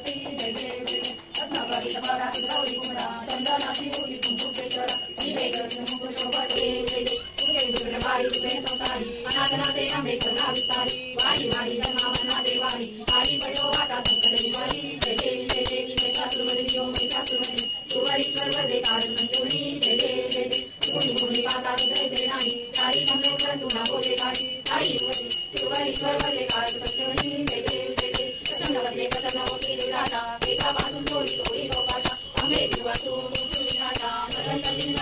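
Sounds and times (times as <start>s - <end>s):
devotional singing: 0.0s - 35.0s
hand bell ringing rapidly: 0.0s - 35.0s.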